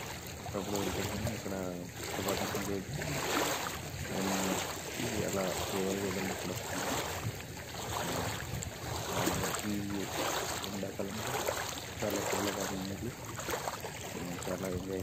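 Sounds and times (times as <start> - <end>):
wind on microphone: 0.0 - 13.5
waves lapping over pebbles: 0.0 - 15.0.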